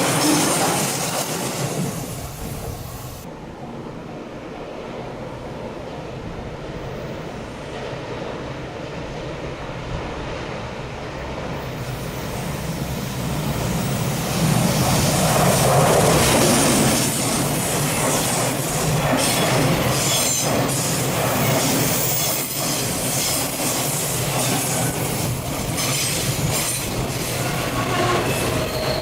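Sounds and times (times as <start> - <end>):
train wheel and rail noise: 0.0 - 29.0.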